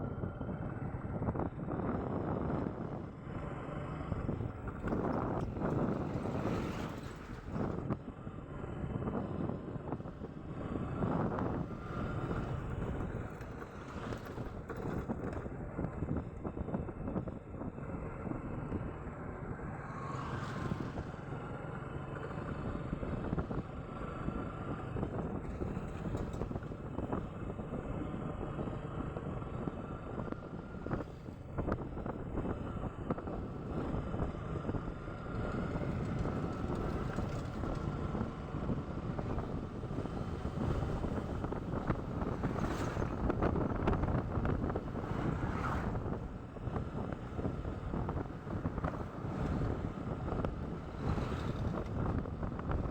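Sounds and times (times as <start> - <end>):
wind buffeting microphone: 0.0 - 21.2, 22.3 - 52.9.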